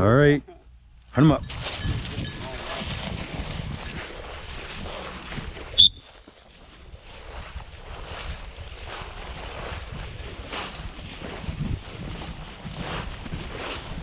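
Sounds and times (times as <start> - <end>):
wind buffeting microphone: 1.2 - 5.9, 6.7 - 14.0.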